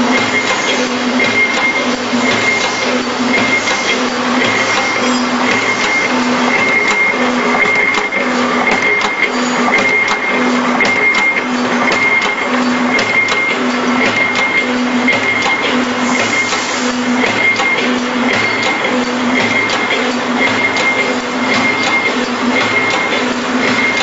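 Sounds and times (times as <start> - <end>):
buckle making machine running: 0.0 - 24.0
sharp machine clicks: 0.0 - 24.0.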